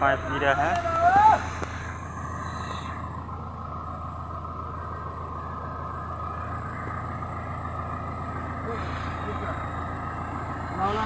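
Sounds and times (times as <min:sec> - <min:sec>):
engine droning with a whine: 0:00.0 - 0:11.0.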